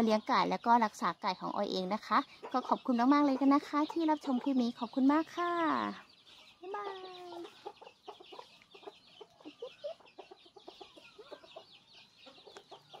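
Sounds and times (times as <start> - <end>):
chickens clucking softly: 0.0 - 13.0
chicks peeping: 0.0 - 13.0.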